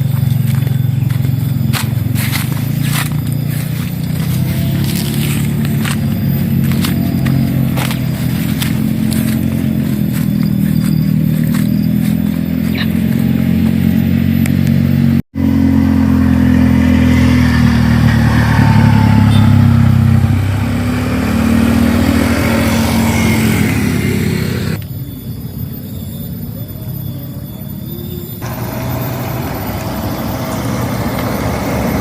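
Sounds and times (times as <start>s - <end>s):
vehicle engine running: 0.0s - 24.8s, 28.3s - 32.0s.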